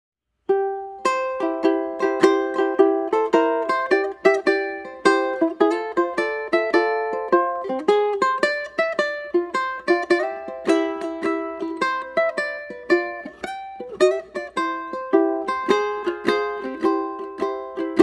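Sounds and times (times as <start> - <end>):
light instrumental music: 0.5 - 18.0.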